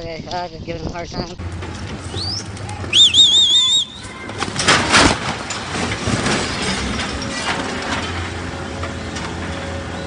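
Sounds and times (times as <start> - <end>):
rough noisy rumble: 0.2 - 10.0
crane crashing down: 1.5 - 10.0.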